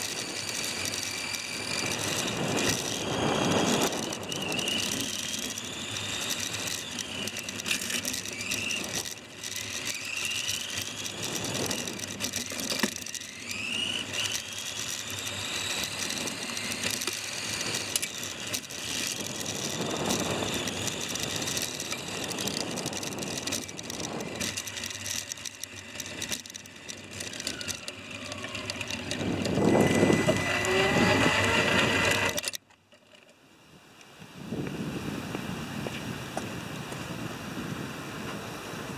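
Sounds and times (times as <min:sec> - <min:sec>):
toy car electric motor whining: 0:00.0 - 0:32.6
tyre and road noise: 0:00.0 - 0:33.4.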